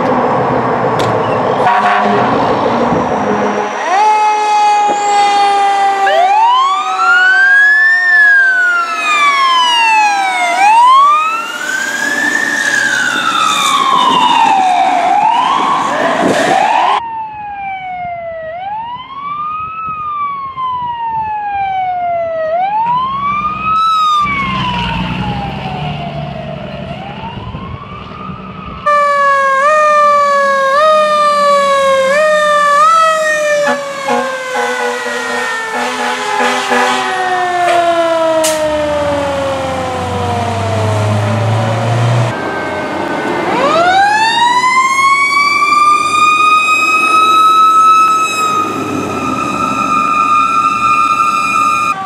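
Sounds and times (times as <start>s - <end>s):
sirens wailing: 0.0s - 52.0s.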